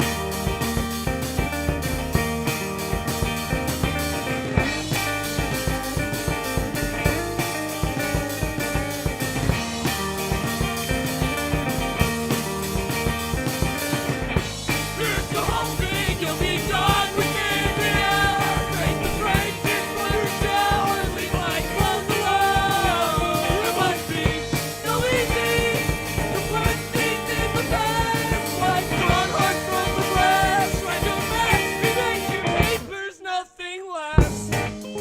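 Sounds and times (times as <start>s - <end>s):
rock band music: 0.0s - 33.0s, 34.2s - 35.0s.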